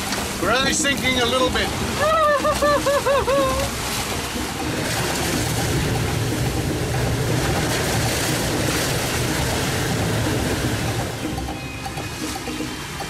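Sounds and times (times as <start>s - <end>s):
gale-force wind rushing: 0.0s - 11.4s
sea water splashing along hull: 0.0s - 13.0s.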